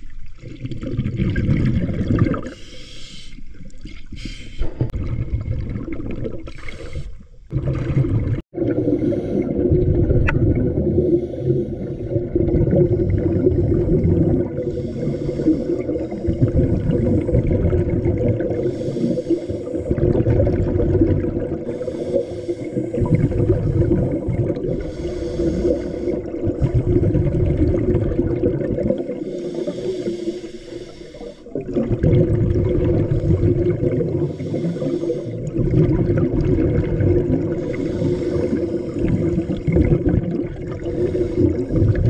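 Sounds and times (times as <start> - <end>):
regulator exhaled air bubbling: 0.4 - 42.0
underwater low rumble: 3.4 - 42.0.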